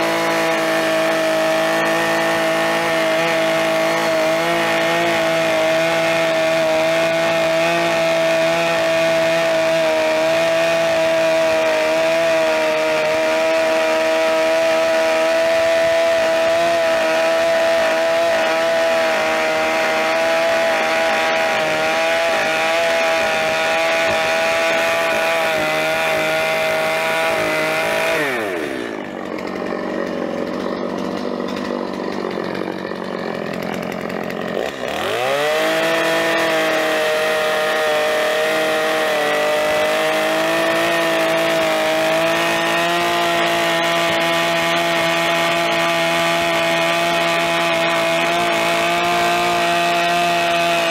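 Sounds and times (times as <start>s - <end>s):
chainsaw cutting logs: 0.0s - 50.9s.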